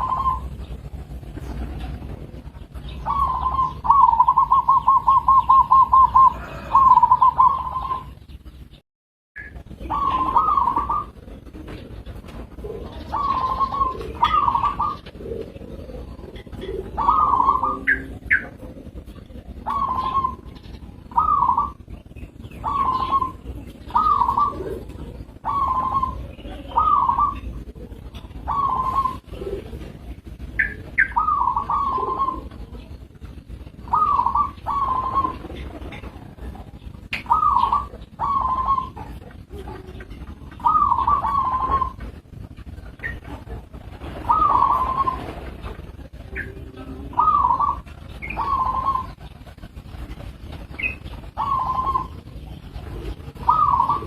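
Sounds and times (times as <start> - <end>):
dove cooing: 0.0 - 8.6, 9.4 - 54.0.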